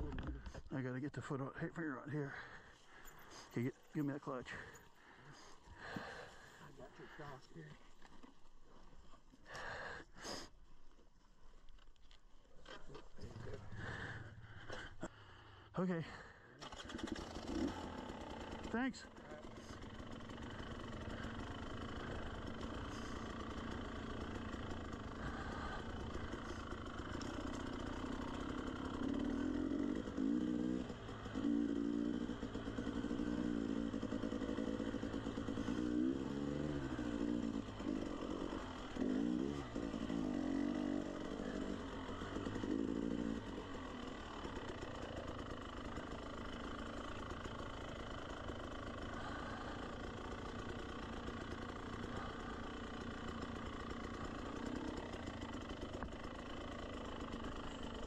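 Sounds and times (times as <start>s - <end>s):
dirt bike engine revving: 1.3s - 7.3s, 16.6s - 58.0s.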